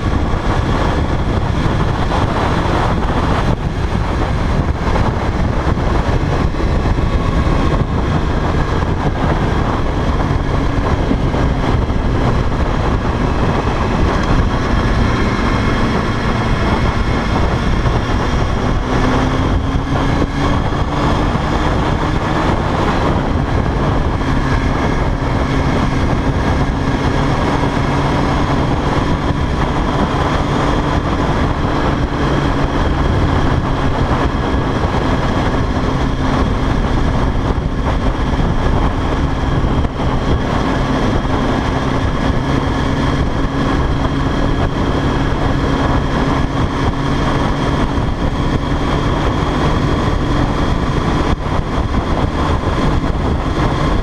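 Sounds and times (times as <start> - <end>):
motorcycle engine cruising: 0.0 - 54.0
road noise: 0.0 - 54.0
wind noise: 0.0 - 54.0.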